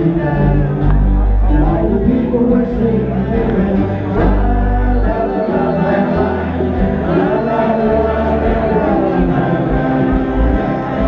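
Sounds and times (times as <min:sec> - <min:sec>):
acoustic guitars: 0:00.0 - 0:11.0
low bass notes: 0:00.0 - 0:11.0
person singing: 0:00.0 - 0:11.0.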